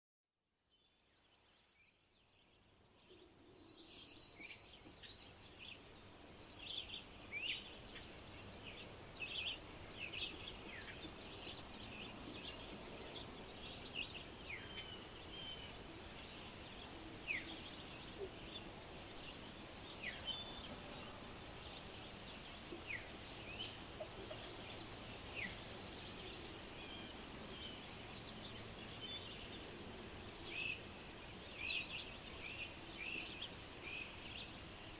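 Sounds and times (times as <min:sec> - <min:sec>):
small birds chirping: 0:00.6 - 0:34.9
steady background hiss: 0:00.6 - 0:34.9.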